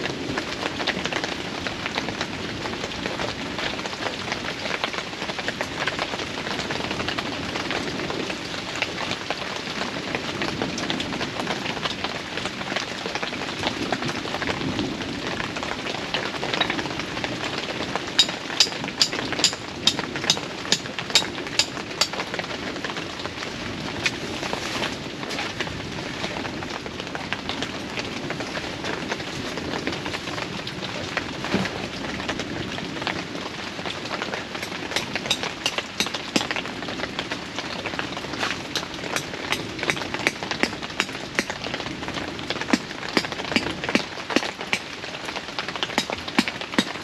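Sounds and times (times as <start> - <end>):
heavy rain and hail: 0.0 - 47.0.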